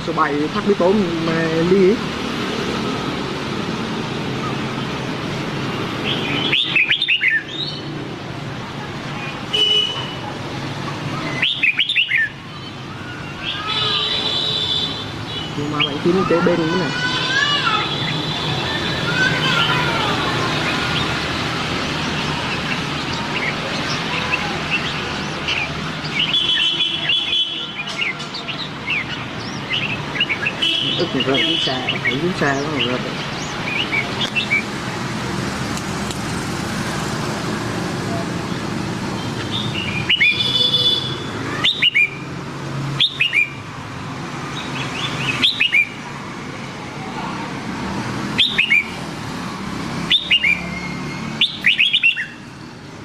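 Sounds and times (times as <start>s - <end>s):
birds chirping: 0.0s - 46.9s, 48.0s - 53.0s.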